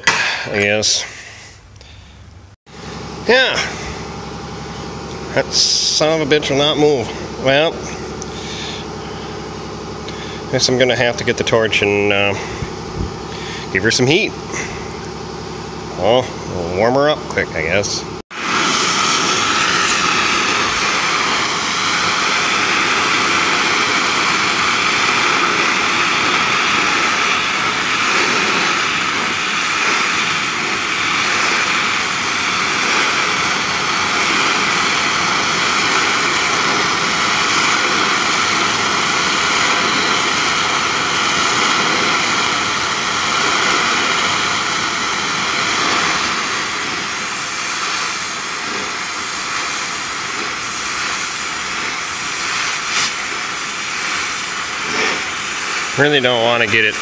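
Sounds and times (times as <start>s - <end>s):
gas torch flame rushing: 0.0s - 1.8s, 2.7s - 57.0s.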